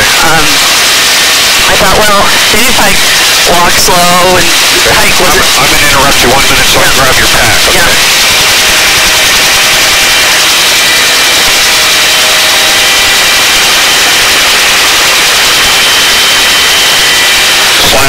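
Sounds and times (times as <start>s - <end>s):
helicopter hovering: 0.0s - 18.0s
high turbine whine: 0.0s - 18.0s.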